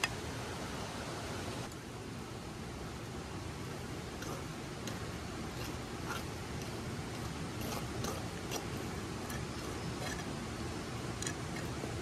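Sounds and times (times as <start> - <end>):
river water gushing: 0.0 - 12.0.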